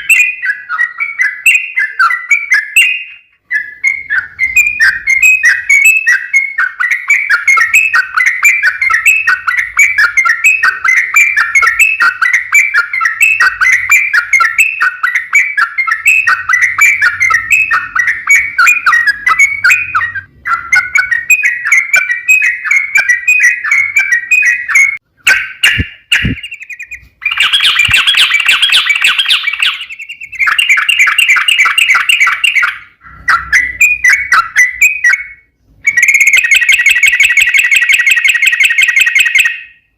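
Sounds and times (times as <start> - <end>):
bulbul singing rolling chatter: 0.0 - 39.8.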